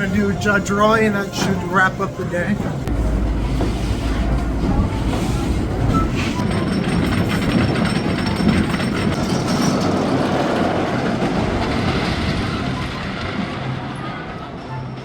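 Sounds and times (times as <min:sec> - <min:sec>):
rail cars rumbling and rattling: 0:00.0 - 0:15.0.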